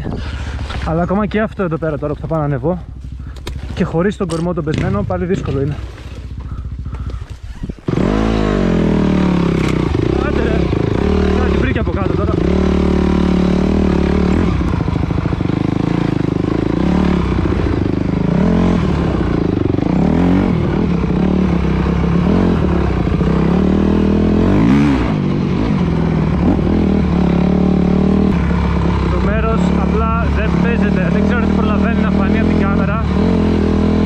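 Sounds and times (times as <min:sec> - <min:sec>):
dirt bike engine revving: 0:02.4 - 0:34.0.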